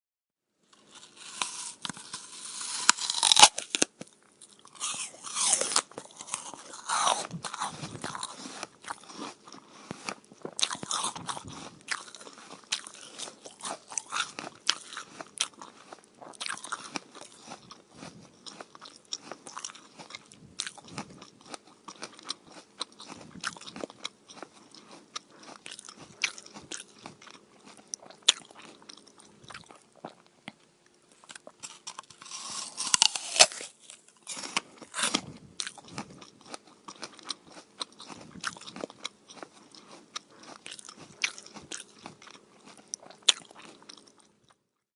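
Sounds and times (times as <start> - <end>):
wet crunchy chewing: 0.7 - 44.6
person biting into an apple: 0.8 - 4.1, 4.7 - 28.7, 31.3 - 43.7.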